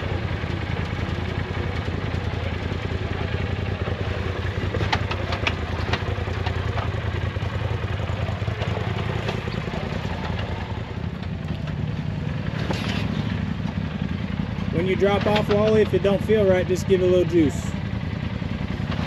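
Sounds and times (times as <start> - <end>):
engine running low and steady: 0.0 - 19.0.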